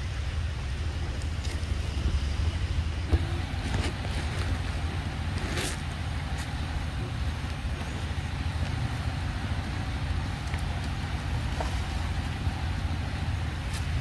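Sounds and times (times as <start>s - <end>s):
low rumbling: 0.0s - 14.0s.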